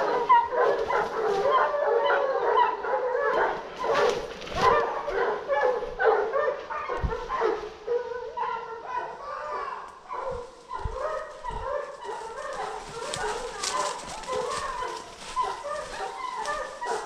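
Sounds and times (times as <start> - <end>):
dogs baying and barking: 0.0 - 17.0.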